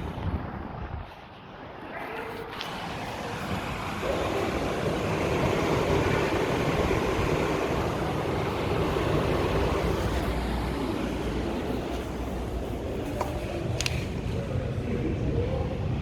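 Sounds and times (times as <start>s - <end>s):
air conditioner unit running: 2.5s - 16.0s.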